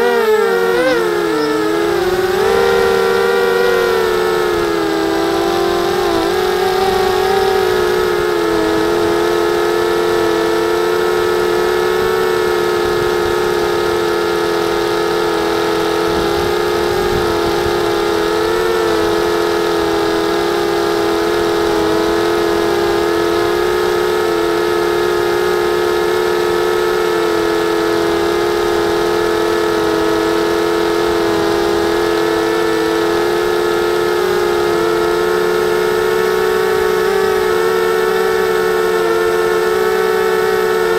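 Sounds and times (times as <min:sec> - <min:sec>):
quadcopter buzzing whine: 0:00.0 - 0:40.9.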